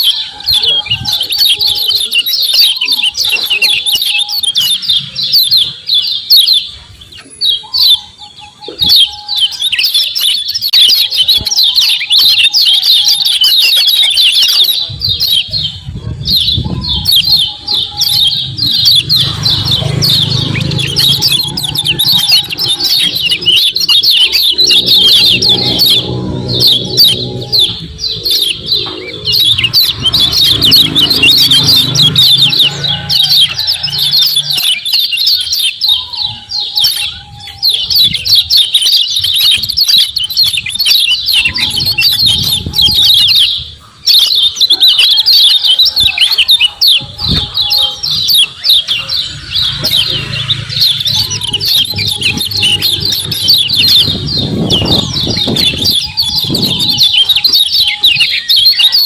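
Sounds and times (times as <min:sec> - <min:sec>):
bird rapid high chirping: 0:00.0 - 0:59.0.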